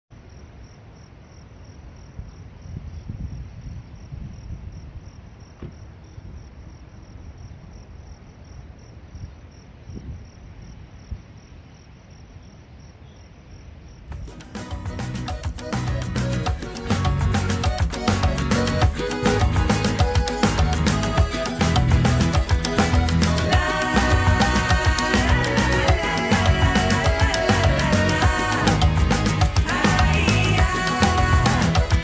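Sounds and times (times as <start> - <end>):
crickets chirping: 0.1 - 32.0.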